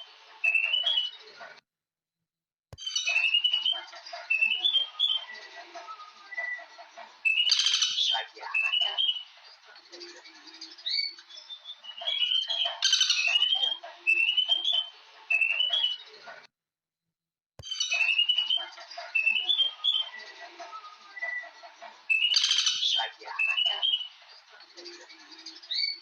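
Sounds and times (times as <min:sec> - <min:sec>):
birds chirping: 0:00.0 - 0:01.6, 0:02.8 - 0:16.5, 0:17.6 - 0:26.0.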